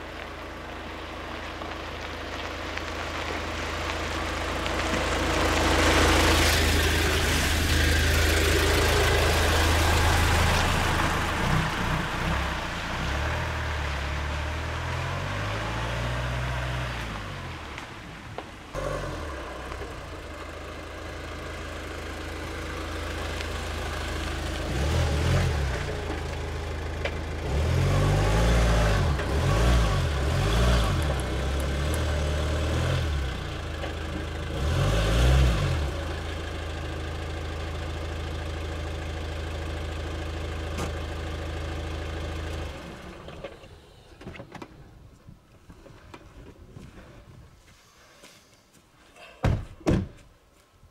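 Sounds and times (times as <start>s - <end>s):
diesel engine revving and idling: 0.0s - 44.2s.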